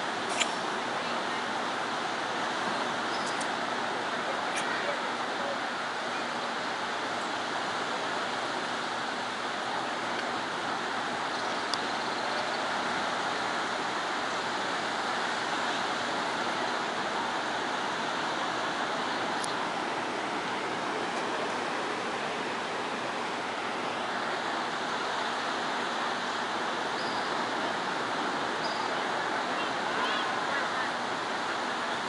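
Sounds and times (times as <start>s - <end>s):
surf washing onto beach: 0.0s - 32.0s.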